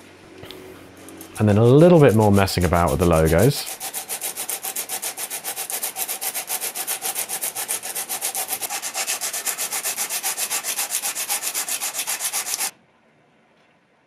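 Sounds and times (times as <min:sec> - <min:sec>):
sandpaper rubbing on metal: 0:01.1 - 0:12.7.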